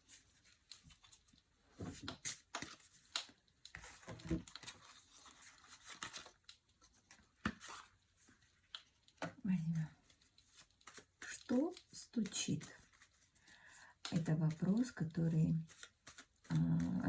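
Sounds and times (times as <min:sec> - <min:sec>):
cards rustling and tapping: 0:00.0 - 0:09.4, 0:10.0 - 0:17.0.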